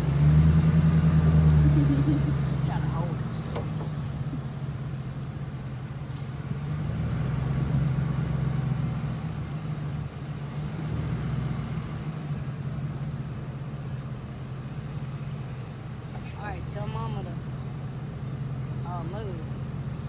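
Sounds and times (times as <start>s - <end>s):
pickup truck engine running: 0.0s - 20.0s.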